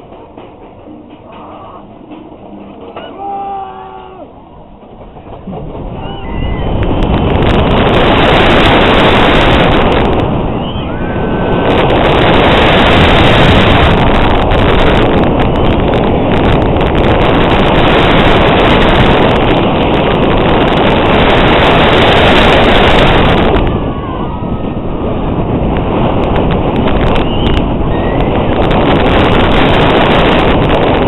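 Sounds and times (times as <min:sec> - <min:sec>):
roller coaster train roaring: 0:00.0 - 0:31.0
wind rushing over microphone: 0:04.6 - 0:31.0.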